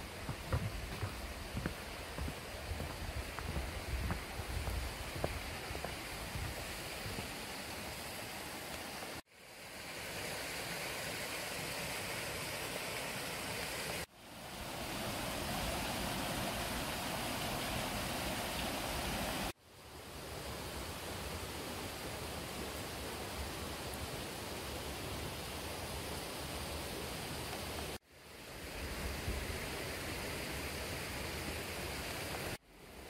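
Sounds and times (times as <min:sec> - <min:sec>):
mountain stream rushing: 0:00.0 - 0:33.0.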